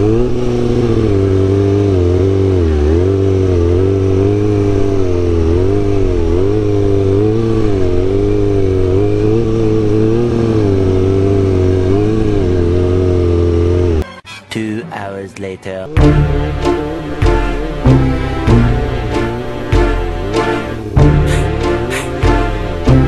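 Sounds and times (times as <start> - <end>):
motorcycle engine revving: 0.0 - 14.0, 15.8 - 23.0.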